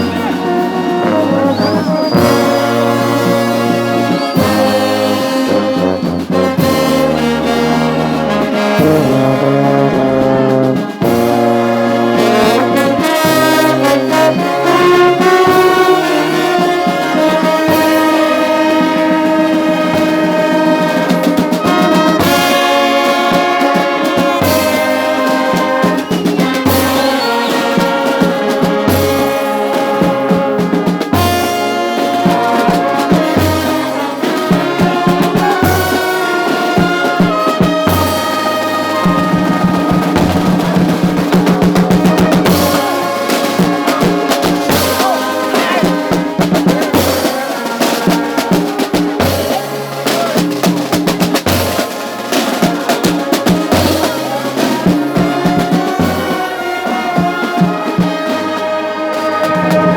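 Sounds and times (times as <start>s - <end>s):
brass band playing: 0.0s - 59.9s
percussion hits: 0.0s - 59.9s.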